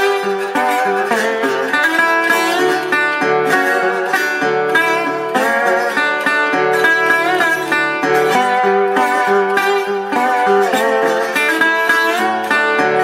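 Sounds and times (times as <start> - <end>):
slide guitar blues: 0.0 - 13.0.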